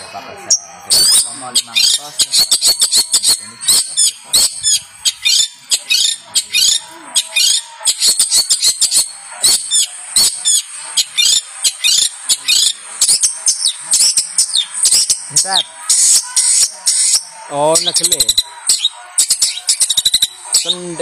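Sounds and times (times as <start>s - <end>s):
shrike singing chattering song: 0.0s - 21.0s.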